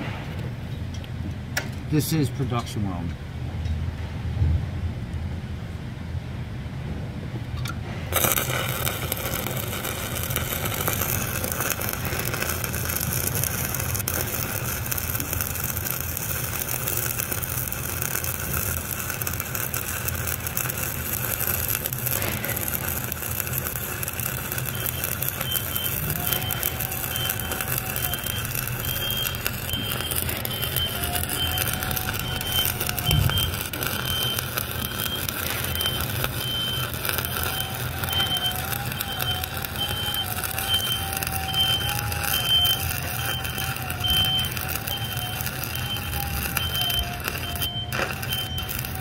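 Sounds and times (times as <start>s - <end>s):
welding arc burning: 7.9s - 49.0s.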